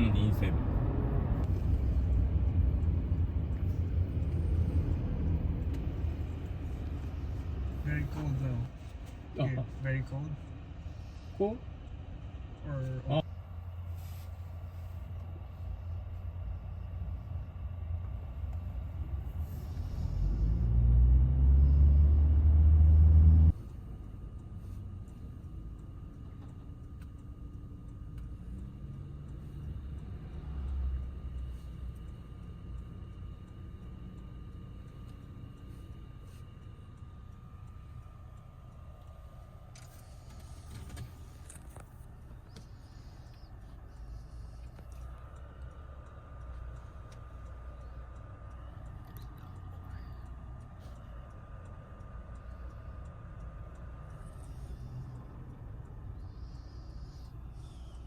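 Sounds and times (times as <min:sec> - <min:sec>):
car rumbling in motion: 0:00.0 - 0:58.0
vehicle engine humming: 0:00.0 - 0:58.0.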